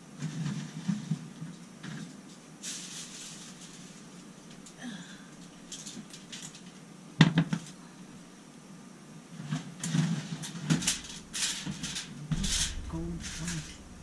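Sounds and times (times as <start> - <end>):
aluminium foil crinkling: 0.2 - 6.9, 9.4 - 14.0.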